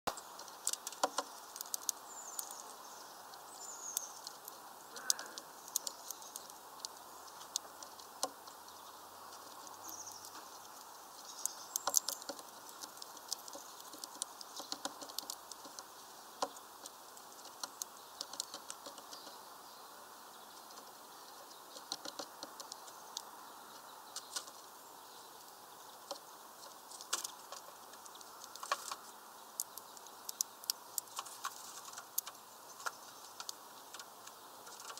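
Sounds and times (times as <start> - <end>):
bird pecking and scrabbling: 0.1 - 19.5, 20.4 - 34.9.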